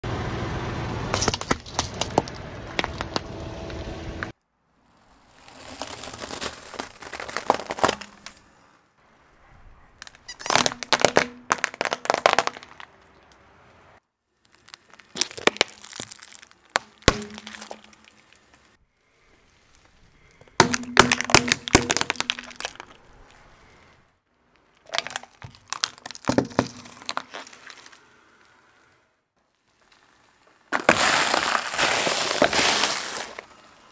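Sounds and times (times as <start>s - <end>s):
car tyre crushing objects: 1.0s - 4.3s, 5.0s - 8.7s, 10.0s - 13.5s, 14.4s - 28.6s, 29.5s - 33.9s.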